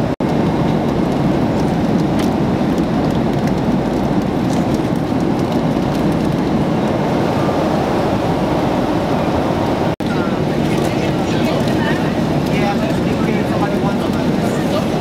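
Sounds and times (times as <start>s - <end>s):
airliner cabin engine drone: 0.0s - 15.0s.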